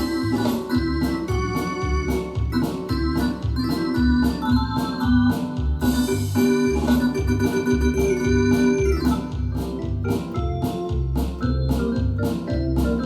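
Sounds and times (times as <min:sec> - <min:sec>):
steady beat: 0:00.0 - 0:13.0.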